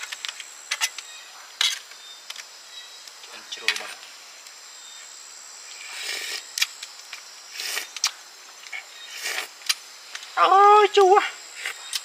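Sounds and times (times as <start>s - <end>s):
insects buzzing high-pitched: 0.0s - 12.0s.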